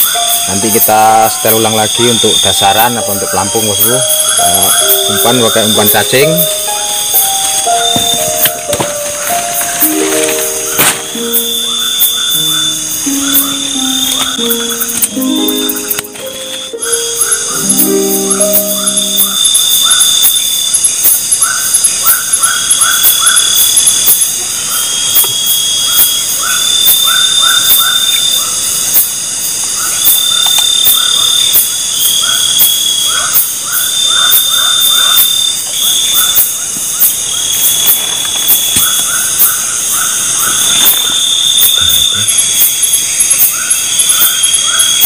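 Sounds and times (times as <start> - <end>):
insect trills: 0.0 - 45.0
insects buzzing: 0.0 - 45.0
short lower insect notes: 0.0 - 45.0.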